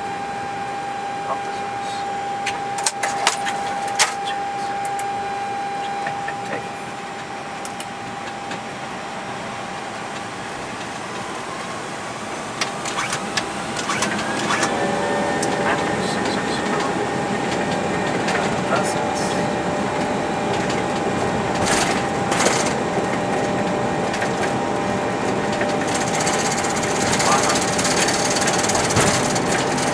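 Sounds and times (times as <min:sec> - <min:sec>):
cockpit steady whine: 0:00.0 - 0:29.9
jet engines spooling up: 0:01.2 - 0:29.9.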